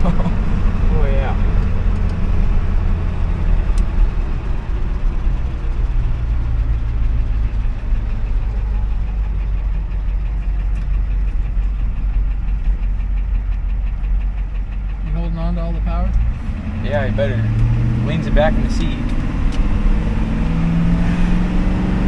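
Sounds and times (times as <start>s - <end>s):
diesel engine rumble: 0.0s - 22.0s
road noise: 0.0s - 22.0s.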